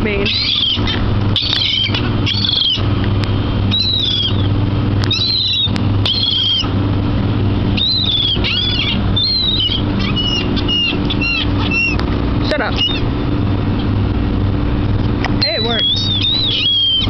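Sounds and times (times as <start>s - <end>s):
low mechanical hum: 0.0s - 17.0s
seagulls calling: 0.1s - 14.0s, 15.4s - 17.0s.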